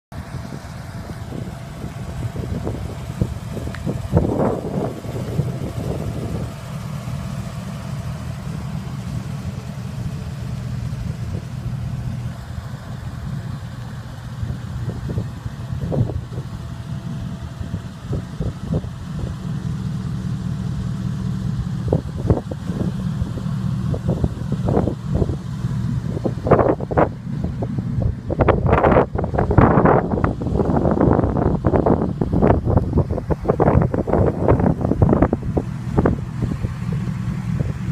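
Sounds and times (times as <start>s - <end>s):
car engine idling: 0.1s - 37.9s.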